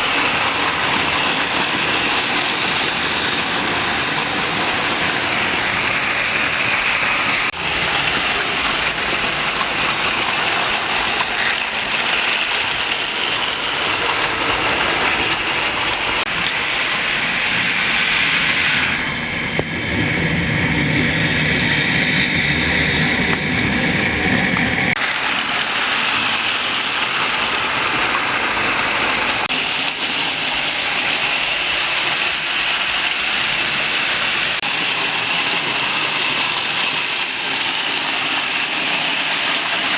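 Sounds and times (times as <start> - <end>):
model train rumble and motor whir: 0.0 - 39.9.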